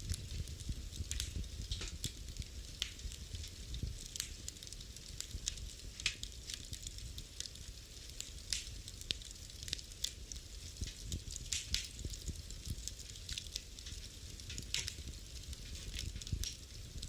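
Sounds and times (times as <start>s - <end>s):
low rumble of flame: 0.0s - 17.0s
wood fire crackling and popping: 0.0s - 17.0s.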